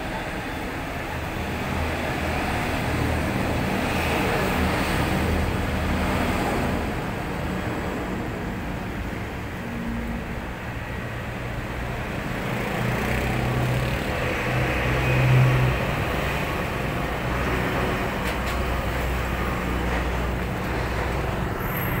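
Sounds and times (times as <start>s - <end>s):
heavy truck passing: 0.0s - 22.0s
road traffic passing: 0.0s - 22.0s.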